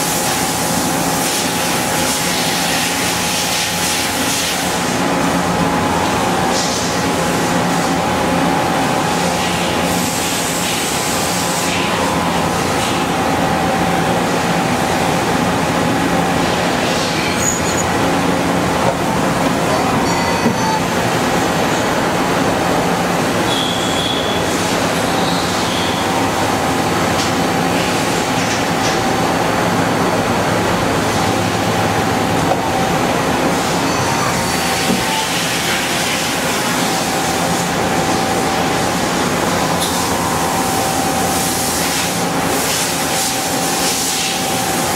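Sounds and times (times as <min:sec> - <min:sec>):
high machine whine: 0:00.0 - 0:44.9.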